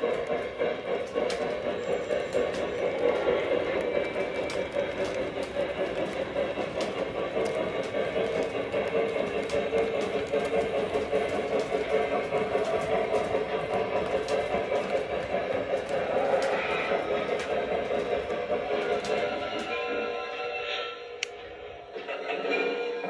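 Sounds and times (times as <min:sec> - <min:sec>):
light clicks on track: 0:00.0 - 0:19.8, 0:21.2 - 0:21.4
model train wheels rumbling: 0:00.0 - 0:23.0.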